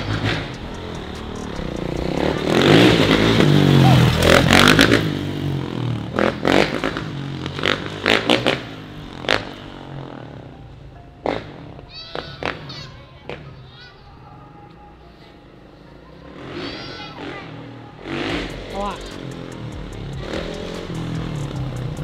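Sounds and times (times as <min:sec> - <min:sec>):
dirt bike engine revving: 0:00.0 - 0:12.7, 0:16.2 - 0:22.0.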